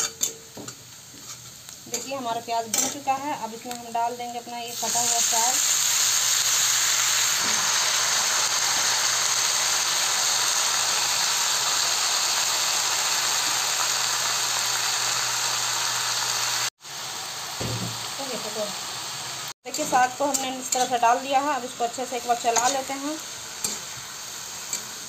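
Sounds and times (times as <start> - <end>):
leaves sizzling in hot oil: 0.4 - 25.0.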